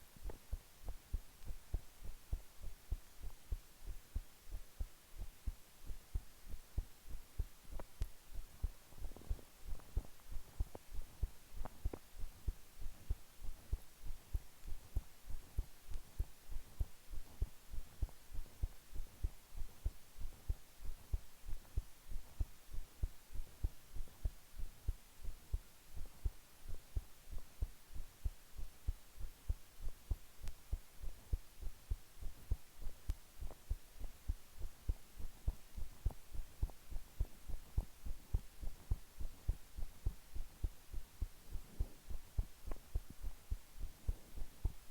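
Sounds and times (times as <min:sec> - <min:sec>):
heart beating: 0:00.0 - 0:44.9.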